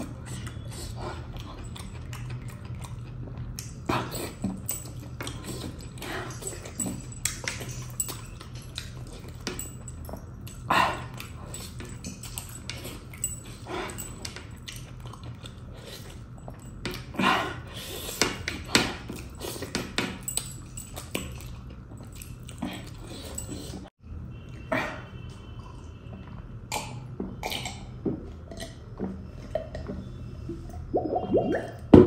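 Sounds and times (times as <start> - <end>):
chewing and mouth clicks: 0.0 - 17.2, 17.8 - 23.9, 25.6 - 30.2.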